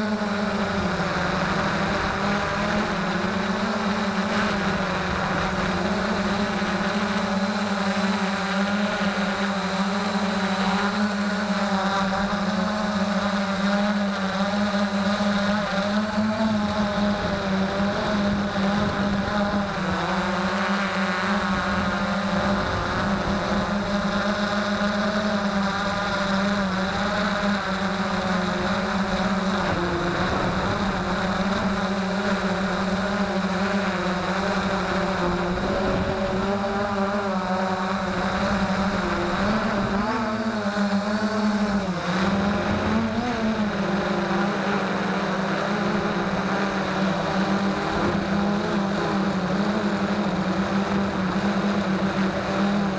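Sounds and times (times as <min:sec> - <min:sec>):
drone propellers buzzing: 0:00.0 - 0:52.9.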